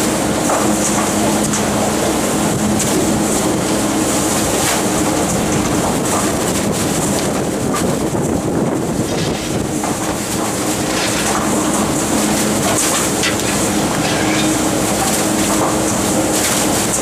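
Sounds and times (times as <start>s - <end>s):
garbage truck packer rumbling: 0.0s - 17.0s
low engine hum: 0.0s - 17.0s.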